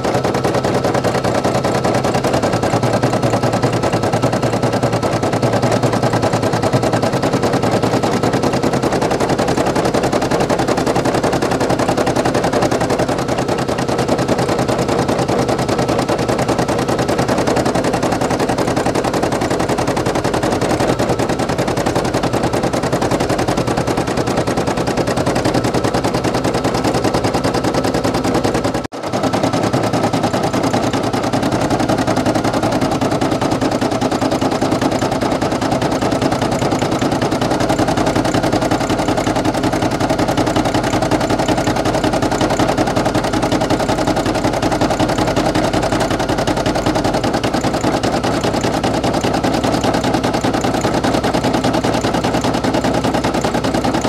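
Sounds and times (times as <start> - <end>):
embroidery machine rattling: 0.0 - 54.0.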